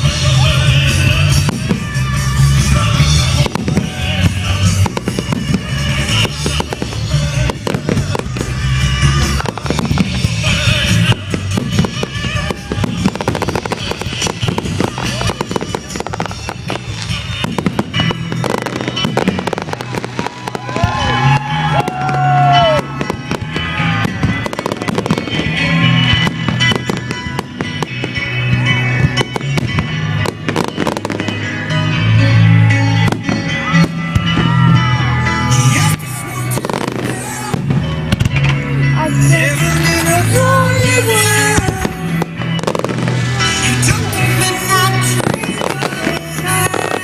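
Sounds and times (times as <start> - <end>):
fireworks banging and crackling: 0.0 - 47.0
loud music: 0.0 - 47.0.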